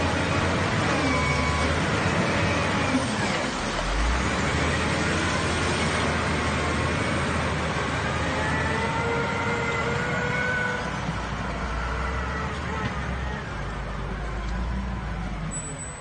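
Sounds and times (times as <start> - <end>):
loader scooping gravel: 0.0 - 13.8
wheel loader diesel engine: 0.0 - 16.0.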